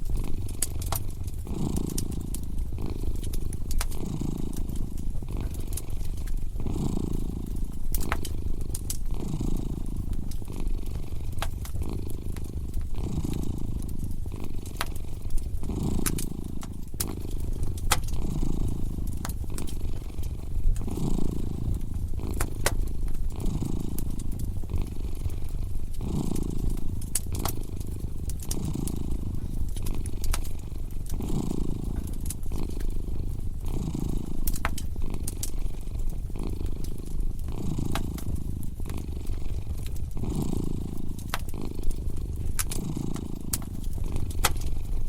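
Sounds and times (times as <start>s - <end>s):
cat purring: 0.0s - 45.0s
wood fire crackling and popping: 0.0s - 45.0s.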